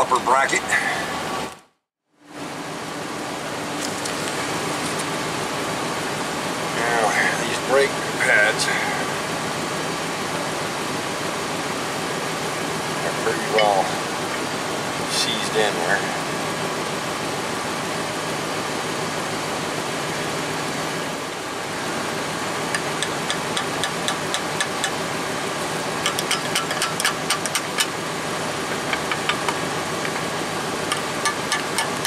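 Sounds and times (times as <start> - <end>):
steady engine-like drone: 0.0 - 32.0.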